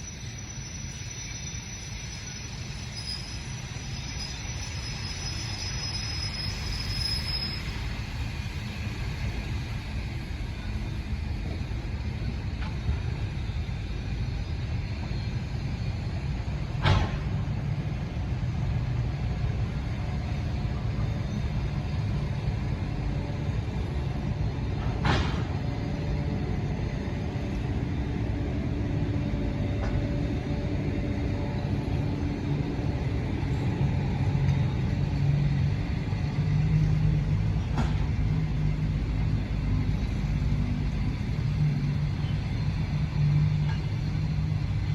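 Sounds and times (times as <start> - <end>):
train rumbling: 0.0 - 44.9.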